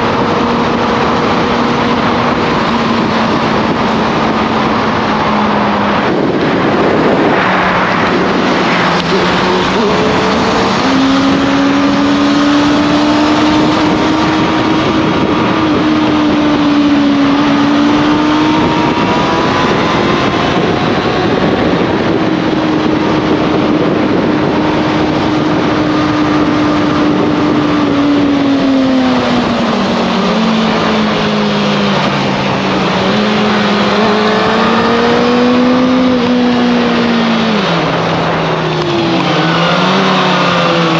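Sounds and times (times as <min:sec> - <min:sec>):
wind noise: 0:00.0 - 0:40.9.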